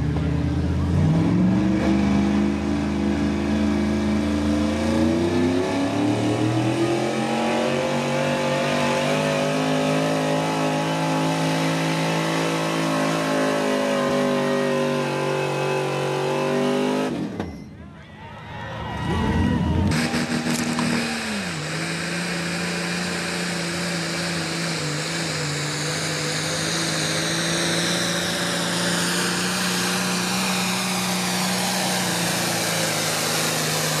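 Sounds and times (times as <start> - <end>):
vehicle engine revving hard: 0.7 - 17.4, 19.1 - 34.0.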